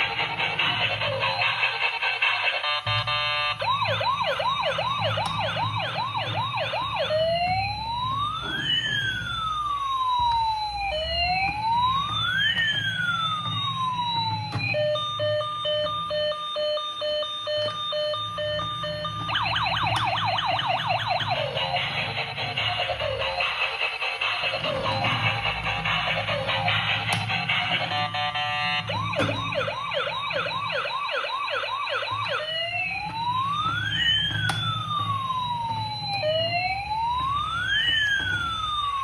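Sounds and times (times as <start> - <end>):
toy electronic siren: 0.0 - 39.0.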